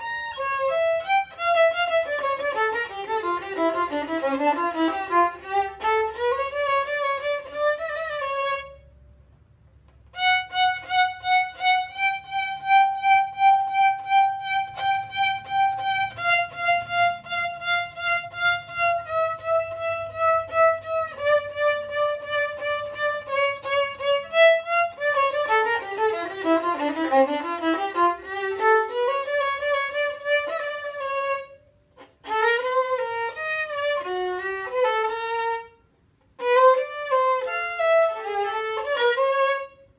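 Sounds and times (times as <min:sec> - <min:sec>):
solo violin: 0:00.0 - 0:09.0, 0:10.0 - 0:39.9.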